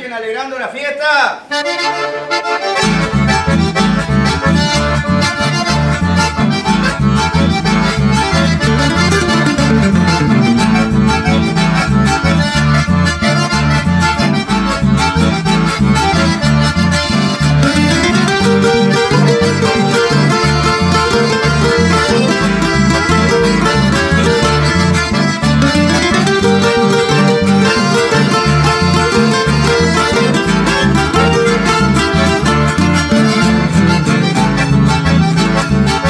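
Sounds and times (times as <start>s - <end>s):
accordion melody: 1.4s - 36.0s
electric bass line: 2.8s - 36.0s
strummed acoustic guitar: 2.8s - 36.0s.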